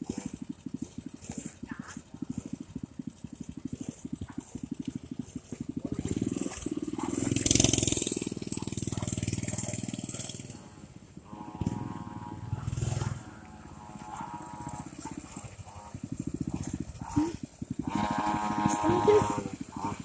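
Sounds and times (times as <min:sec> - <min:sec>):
dirt bike engine puttering: 0:00.0 - 0:20.0.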